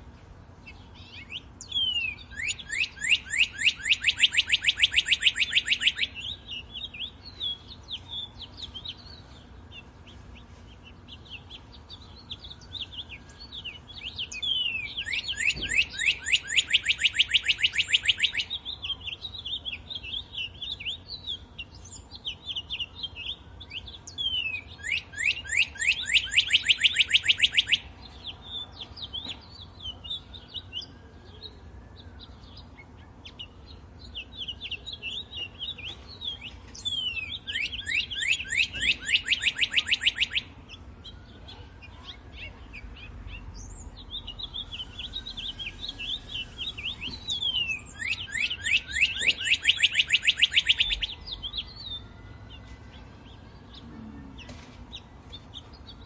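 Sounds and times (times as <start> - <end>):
soft bird chirps: 0.0 - 56.0.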